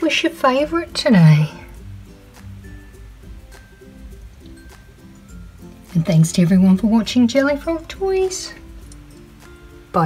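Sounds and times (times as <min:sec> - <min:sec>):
light background melody: 0:00.0 - 0:10.0.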